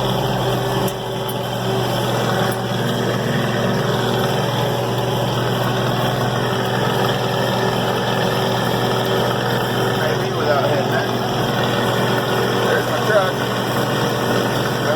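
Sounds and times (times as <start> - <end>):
combine harvester engine drone: 0.0 - 14.9.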